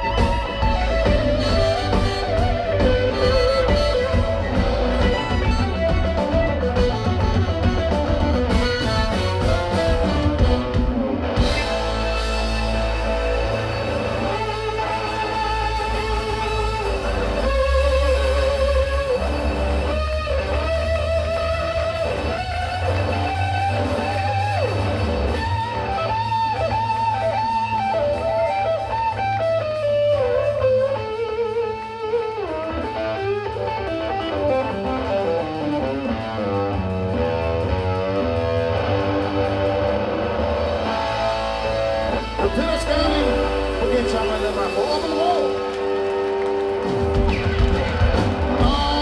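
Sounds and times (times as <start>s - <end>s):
electric guitar solo: 0.0s - 49.0s
live blues-rock band: 0.0s - 49.0s.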